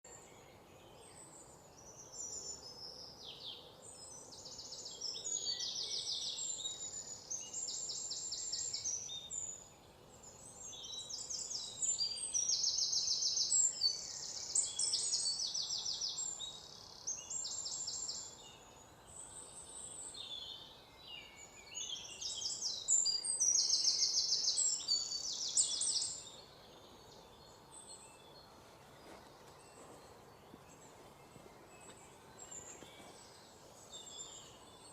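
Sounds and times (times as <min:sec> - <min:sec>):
songbirds trilling and chirping: 0:00.0 - 0:34.9
faint open-air hiss: 0:00.1 - 0:34.9.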